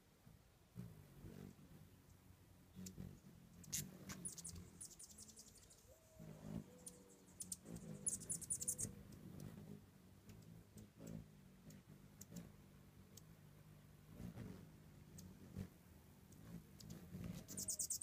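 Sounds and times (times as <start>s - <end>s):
hummingbirds chattering: 0.7s - 18.0s.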